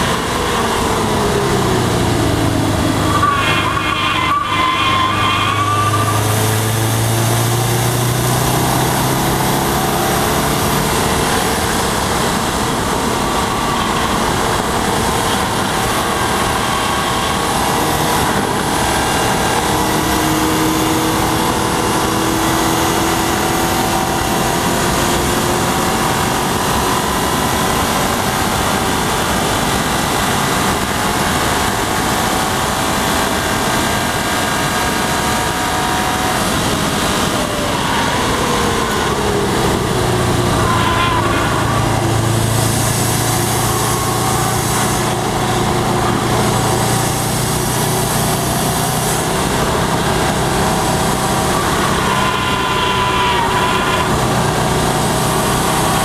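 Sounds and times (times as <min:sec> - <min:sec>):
car engine pulling: 0:00.0 - 0:56.0
wind and road noise: 0:00.0 - 0:56.0.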